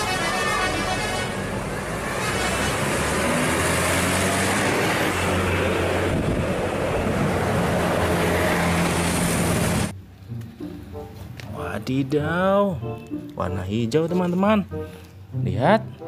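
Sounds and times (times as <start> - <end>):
bus engine humming: 0.0 - 16.0
road and wind noise: 0.0 - 16.0.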